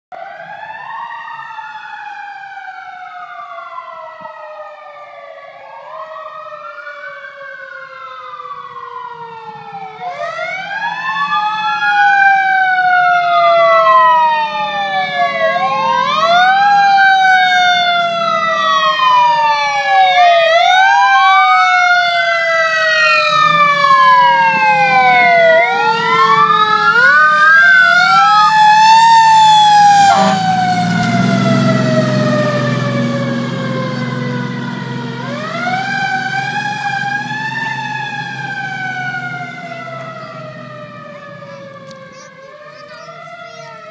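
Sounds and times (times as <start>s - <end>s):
fire engine siren wailing: 0.1s - 43.9s
truck engine rumble: 7.0s - 43.9s.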